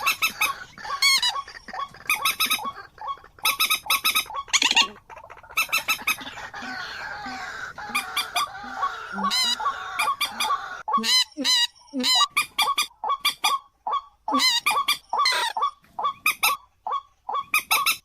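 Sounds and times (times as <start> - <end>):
soft chattering bird warble: 0.0 - 18.0.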